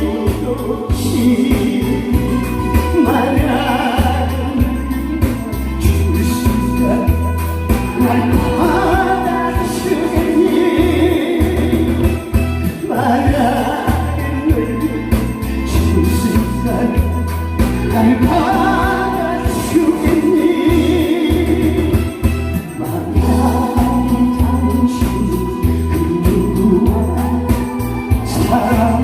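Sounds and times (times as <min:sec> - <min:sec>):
amplified music with bass beat: 0:00.0 - 0:29.0
person singing: 0:00.0 - 0:29.0.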